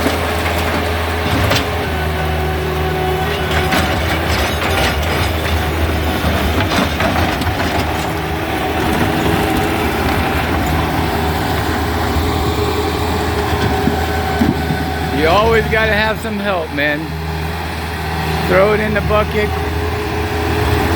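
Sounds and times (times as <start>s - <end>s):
debris clanking and rattling: 0.0s - 17.0s
heavy equipment engine running: 0.0s - 20.9s.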